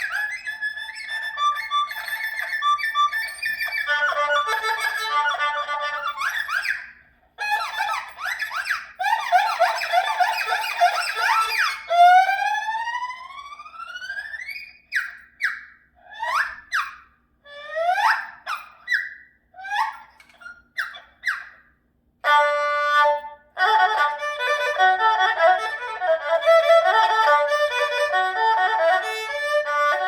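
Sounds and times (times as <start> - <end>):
erhu solo with trills and slides: 0.0 - 21.6, 22.2 - 30.0.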